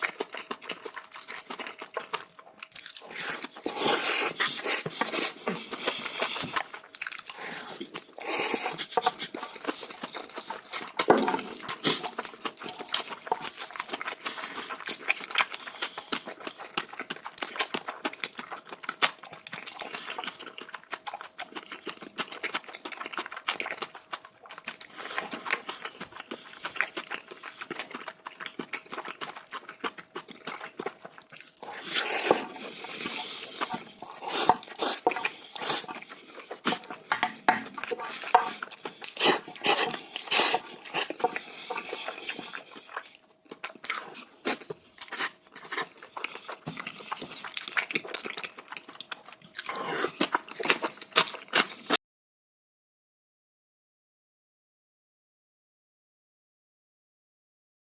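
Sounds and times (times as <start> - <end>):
wet chewing clicks and smacks: 0.0 - 3.7, 4.3 - 51.9.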